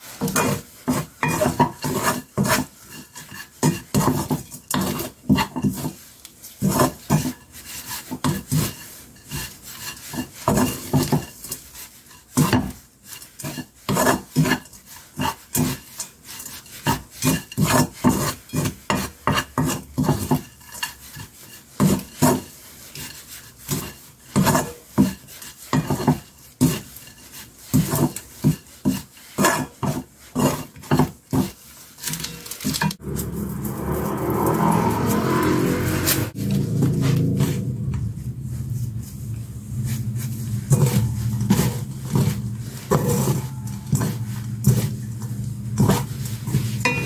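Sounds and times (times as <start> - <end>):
wooden spatula scraping a pan: 0.0 - 47.0.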